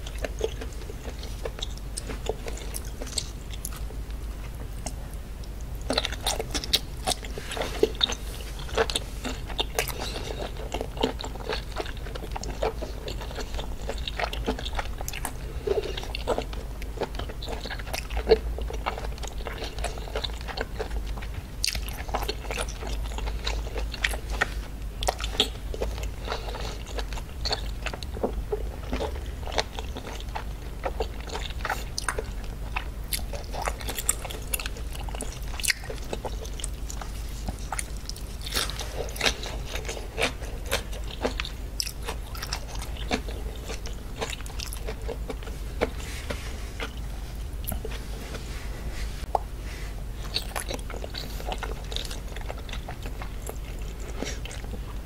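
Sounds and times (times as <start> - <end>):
chewing and biting food: 0.0 - 48.5, 49.1 - 55.0
steady low hum: 0.0 - 55.0.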